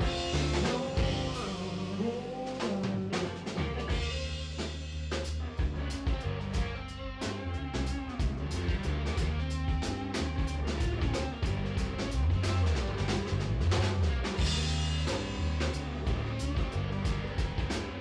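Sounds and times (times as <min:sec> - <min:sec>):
bass line: 0:00.0 - 0:18.0
drum kit: 0:00.0 - 0:18.0
guitar: 0:00.0 - 0:18.0.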